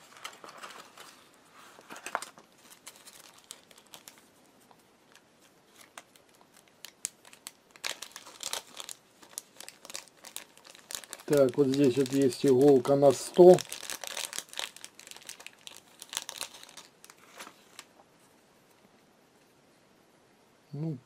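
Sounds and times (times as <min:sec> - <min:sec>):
plastic bag and paper crinkling: 0:00.0 - 0:18.0.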